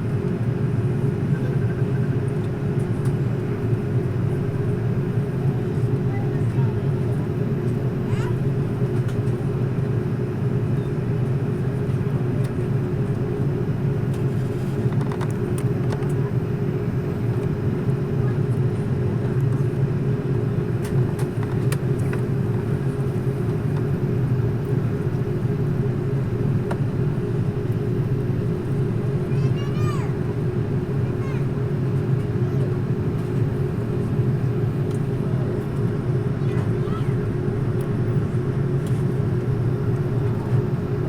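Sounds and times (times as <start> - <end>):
airliner cabin engine hum: 0.0 - 41.0.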